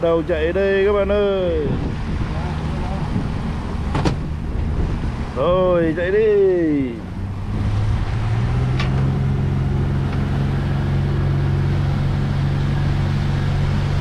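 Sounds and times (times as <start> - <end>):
outboard motor humming: 0.0 - 14.0
wind: 0.0 - 14.0.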